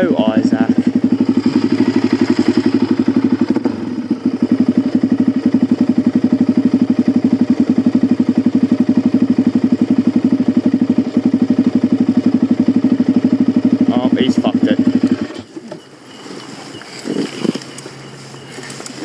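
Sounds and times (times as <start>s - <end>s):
dirt bike engine idling: 0.0s - 19.0s.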